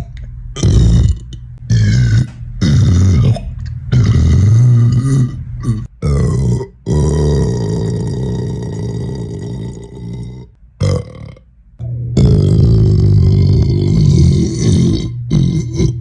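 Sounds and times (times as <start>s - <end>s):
man burping loudly: 0.6s - 11.5s, 12.2s - 16.0s.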